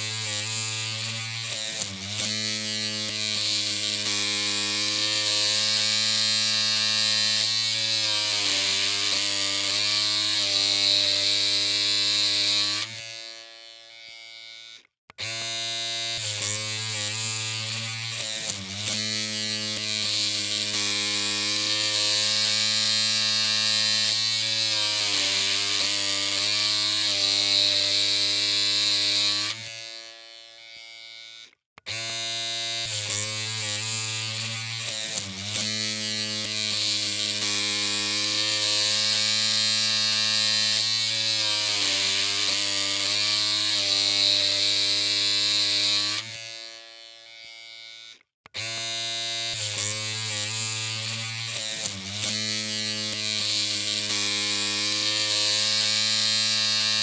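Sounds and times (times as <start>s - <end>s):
electric hair clippers humming: 0.0s - 57.0s.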